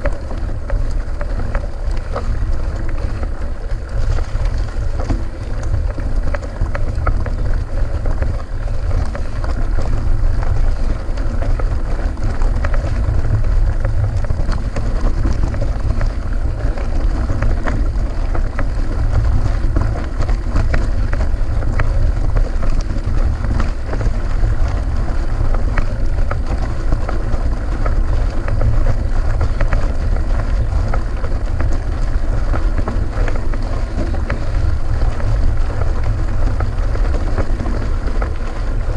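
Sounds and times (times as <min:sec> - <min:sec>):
bike clicks and rattles: 0:00.0 - 0:38.9
wind buffeting microphone: 0:00.0 - 0:38.9.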